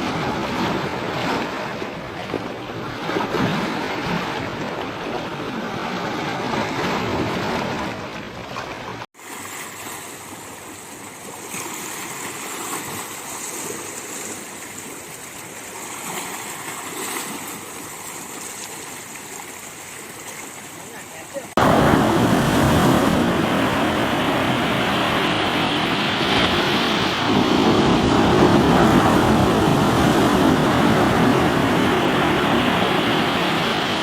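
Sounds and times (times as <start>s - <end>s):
waves washing over rocky shore: 0.0s - 34.0s.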